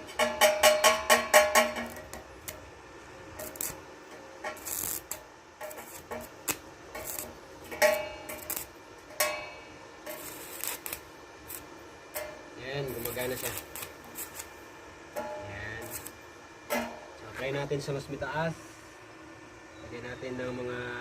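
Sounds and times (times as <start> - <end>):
welding arc crackling: 0.0 - 18.4
welding arc hiss: 0.0 - 19.2.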